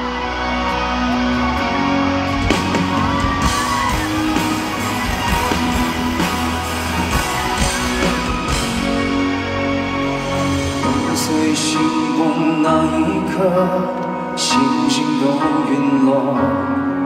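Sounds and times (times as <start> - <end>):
band playing slow pop ballad: 0.0 - 17.0.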